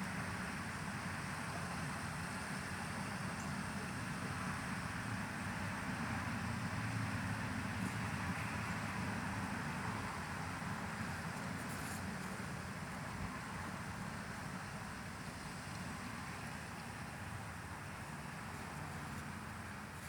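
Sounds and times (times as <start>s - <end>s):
white noise rumble and hiss: 0.0s - 20.0s.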